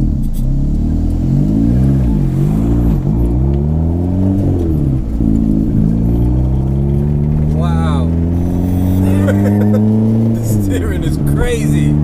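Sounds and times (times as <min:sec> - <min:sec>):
car engine revving inside cabin: 0:00.0 - 0:12.0.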